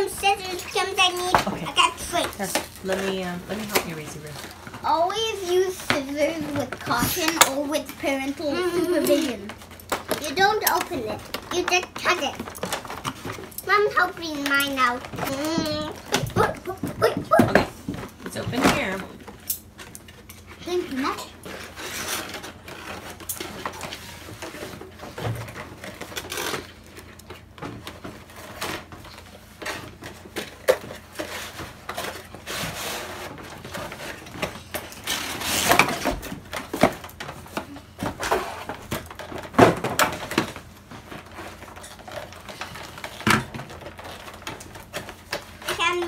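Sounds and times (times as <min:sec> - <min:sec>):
packaging rustling and crinkling: 0:00.0 - 0:46.0.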